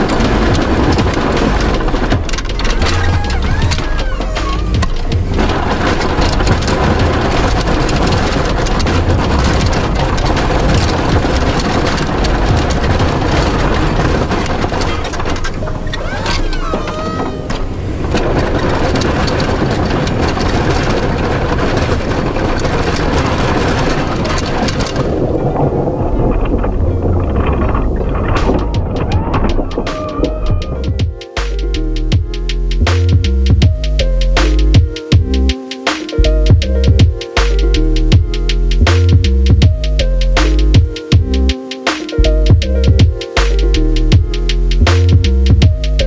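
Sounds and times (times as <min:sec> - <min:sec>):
snowplow blade rumbling: 0:00.0 - 0:46.0.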